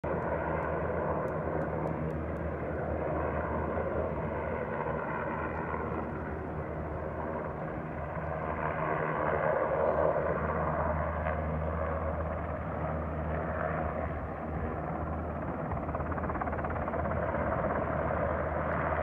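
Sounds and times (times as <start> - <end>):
helicopter rotor and engine drone: 0.0 - 19.0.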